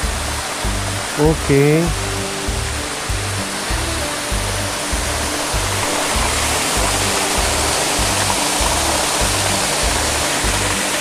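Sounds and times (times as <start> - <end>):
music with bass beat: 0.0 - 11.0
small waterfall rushing: 0.0 - 11.0.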